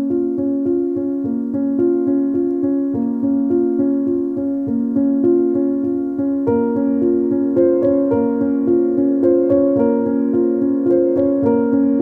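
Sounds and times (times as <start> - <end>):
piano-like keyboard music: 0.0 - 12.0.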